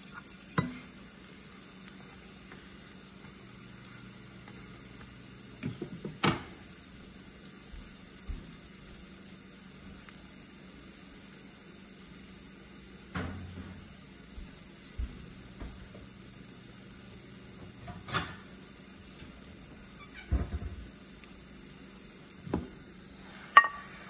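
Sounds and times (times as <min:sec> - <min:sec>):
pancakes sizzling in oil: 0:00.0 - 0:24.0.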